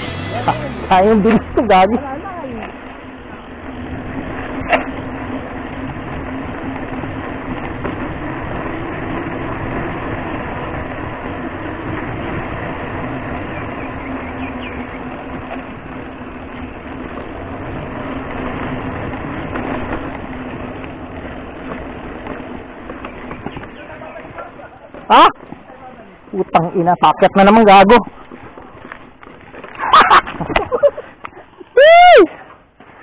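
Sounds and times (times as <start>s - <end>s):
low hum: 0.0s - 32.9s
bike tyres rolling on concrete: 0.0s - 33.0s.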